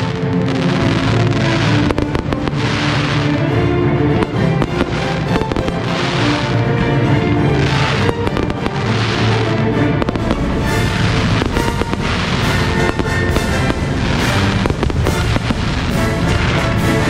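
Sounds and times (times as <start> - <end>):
fireworks bursting and crackling: 0.0 - 17.0
music with sustained tones: 0.0 - 17.0.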